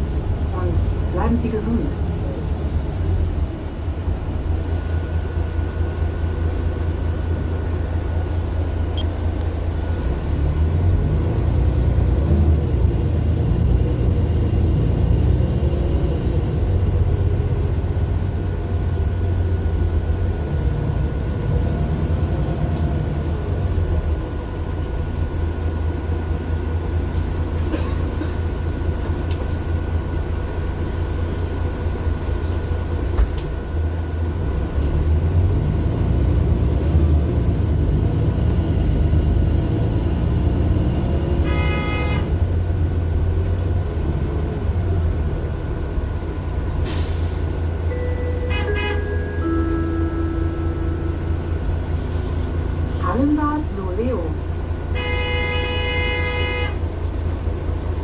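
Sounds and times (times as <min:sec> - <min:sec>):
bus diesel engine rumbling: 0:00.0 - 0:58.0.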